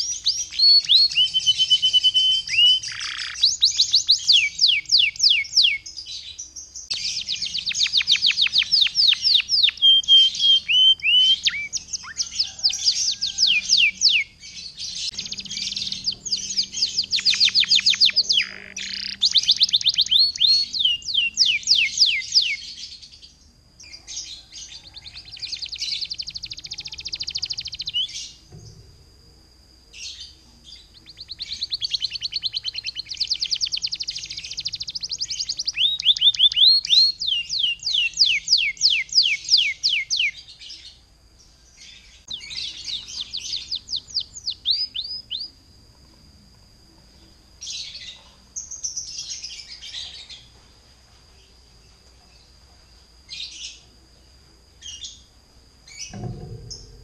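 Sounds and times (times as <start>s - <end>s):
canary singing trills: 0.0s - 28.8s, 29.5s - 50.6s, 51.4s - 57.0s.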